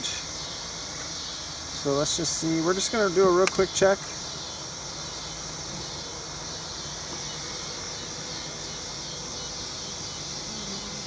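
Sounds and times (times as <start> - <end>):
high-pitched hiss: 0.0 - 11.0
honeybees buzzing: 0.0 - 11.0.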